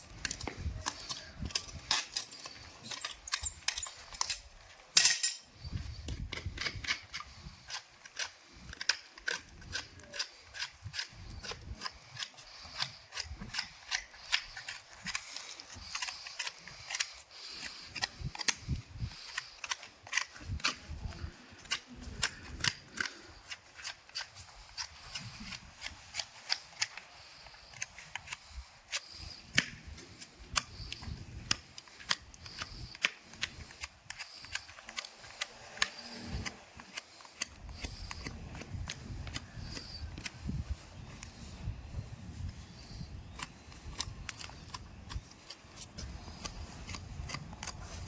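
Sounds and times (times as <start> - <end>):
hoof trimming snaps and clicks: 0.0 - 48.0.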